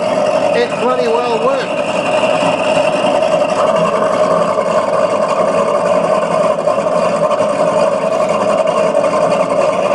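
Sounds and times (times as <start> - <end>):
simulated boat engine idling: 0.0 - 9.9.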